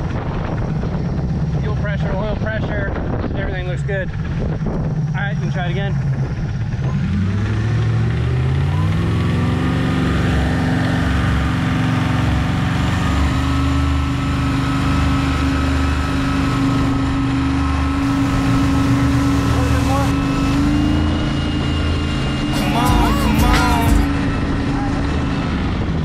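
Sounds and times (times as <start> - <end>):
boat engine revving: 3.8 - 26.0.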